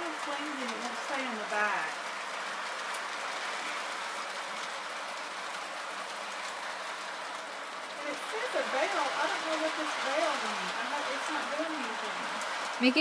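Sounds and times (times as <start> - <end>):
toy electric train running: 0.0 - 13.0.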